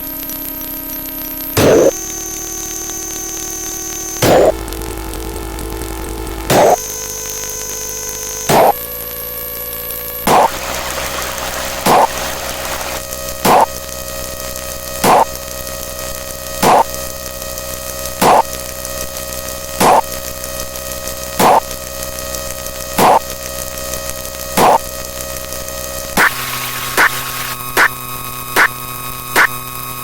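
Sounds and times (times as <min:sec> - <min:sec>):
electronic buzzing hum and hiss: 0:00.0 - 0:30.0.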